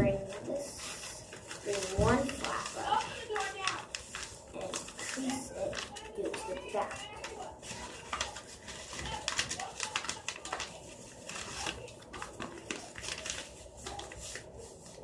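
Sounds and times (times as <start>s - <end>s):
paper folding and crinkling: 0.0s - 15.0s.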